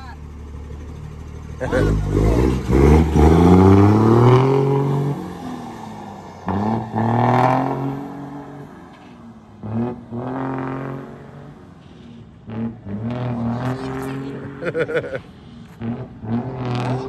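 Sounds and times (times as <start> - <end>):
diesel truck accelerating: 0.0 - 17.0.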